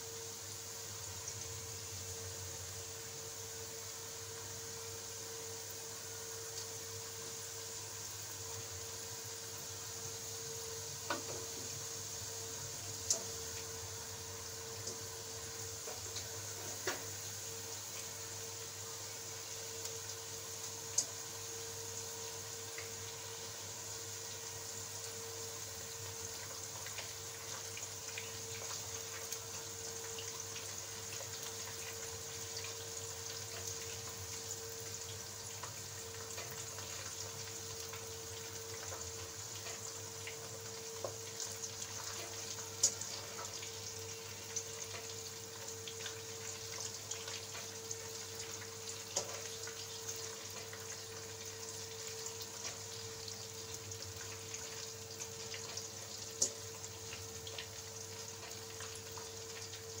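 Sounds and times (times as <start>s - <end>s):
dough sizzling in hot oil: 0.0s - 60.0s.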